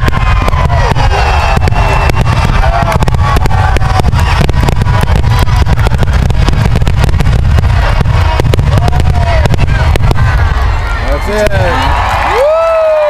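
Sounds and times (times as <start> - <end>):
fireworks bursting: 0.0 - 12.6
low rumble: 0.0 - 12.6.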